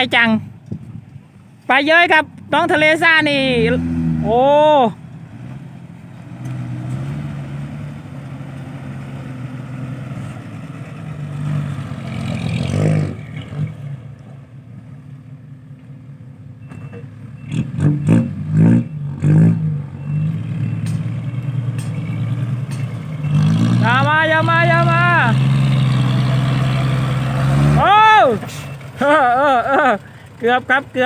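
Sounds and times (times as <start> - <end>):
dump truck engine running: 2.1 - 31.0.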